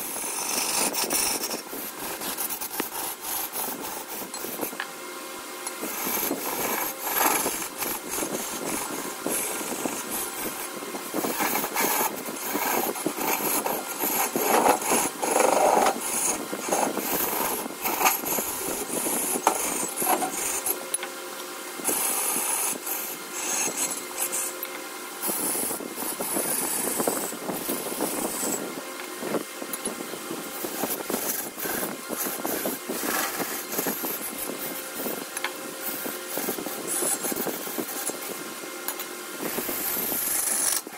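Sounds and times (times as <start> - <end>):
lathe tool scraping wood: 0.0 - 4.9, 5.6 - 20.9, 21.8 - 40.9.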